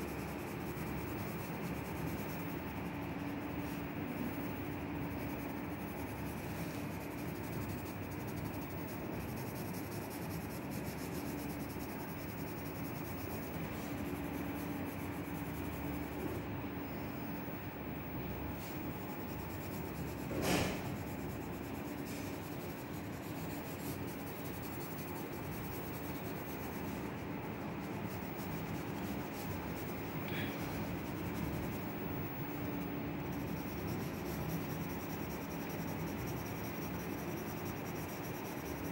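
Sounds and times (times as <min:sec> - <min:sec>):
pencil scratching on paper: 0:00.0 - 0:17.5, 0:18.2 - 0:38.9.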